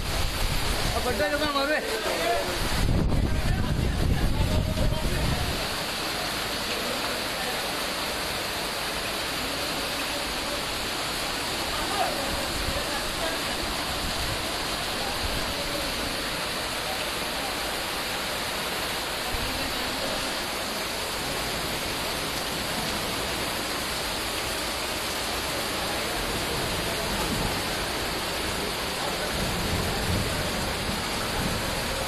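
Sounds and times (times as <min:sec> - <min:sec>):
floodwater streaming: 0:00.0 - 0:32.0
heavy rain: 0:00.0 - 0:32.0.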